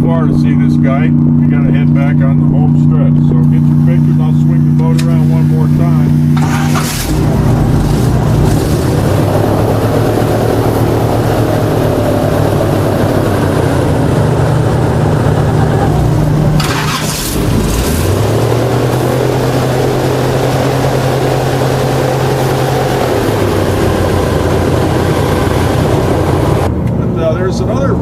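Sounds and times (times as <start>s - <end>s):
airboat engine and propeller: 0.0s - 28.0s.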